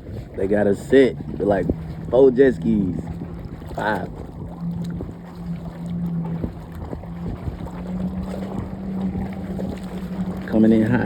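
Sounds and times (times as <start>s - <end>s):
jet ski engines humming: 0.0s - 11.0s
water and wind noise: 0.0s - 11.0s.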